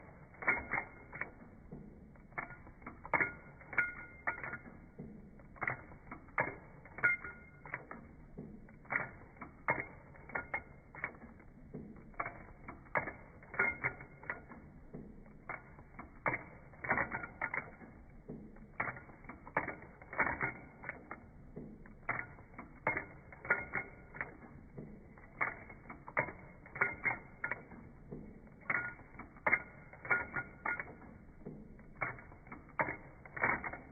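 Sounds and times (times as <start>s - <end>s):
sewing machine clicking: 0.0s - 33.9s.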